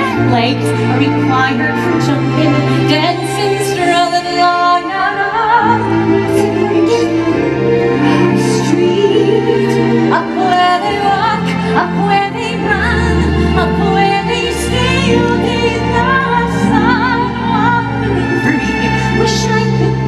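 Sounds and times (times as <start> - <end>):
orchestra with strings: 0.0 - 20.0
woman singing a ballad: 0.0 - 20.0.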